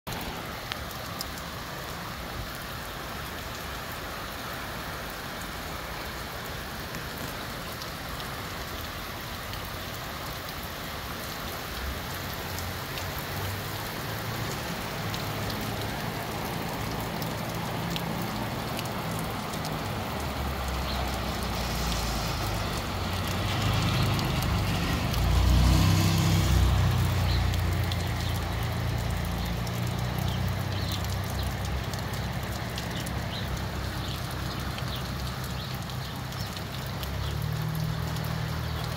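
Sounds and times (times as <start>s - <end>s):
heavy rain falling: 0.1s - 38.9s.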